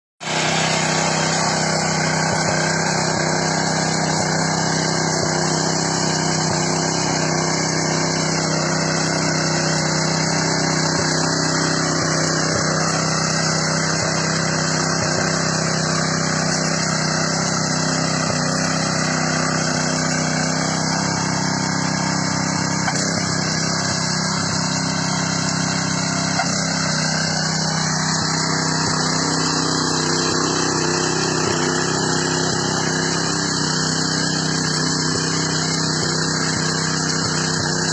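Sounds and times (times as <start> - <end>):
power tiller engine running: 0.2 - 37.9.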